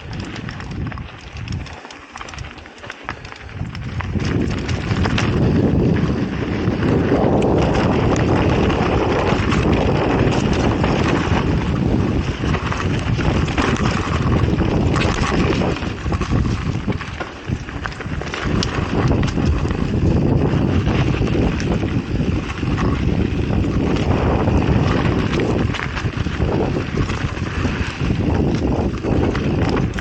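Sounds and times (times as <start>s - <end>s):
bike rattling and knocking: 0.0s - 30.0s
tyres rolling over dirt: 0.0s - 30.0s
wind buffeting microphone: 0.0s - 30.0s.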